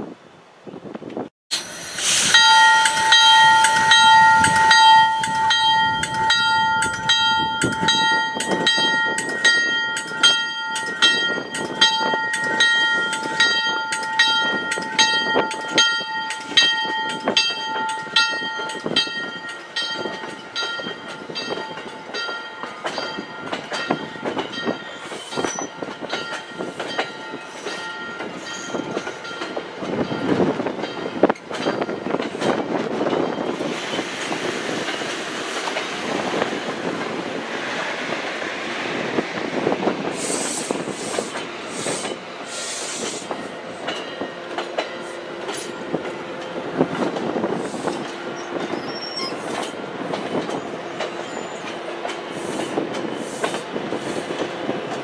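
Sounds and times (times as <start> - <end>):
train rolling past: 0.0 - 55.0.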